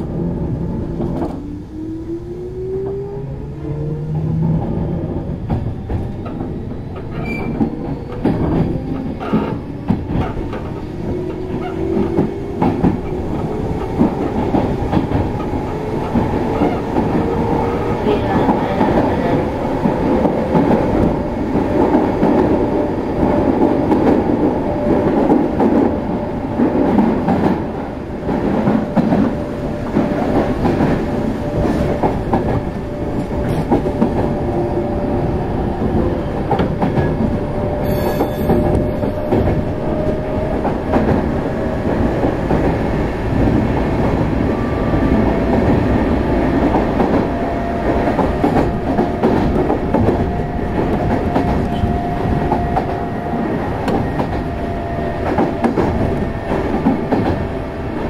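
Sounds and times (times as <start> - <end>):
train running gear rumble: 0.0 - 58.0.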